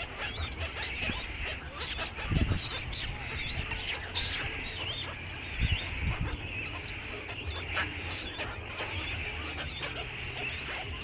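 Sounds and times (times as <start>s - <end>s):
flock of birds chirping: 0.0s - 11.0s.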